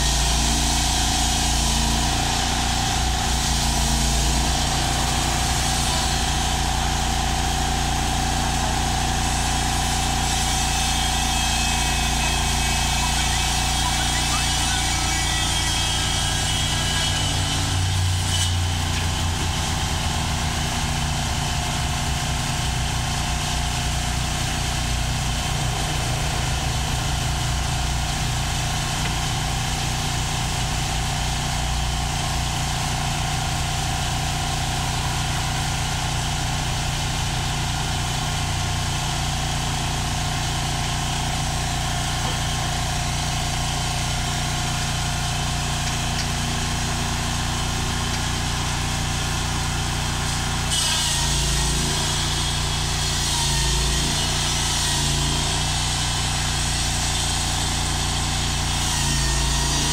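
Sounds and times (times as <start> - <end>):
sawmill engine idling: 0.0 - 59.9.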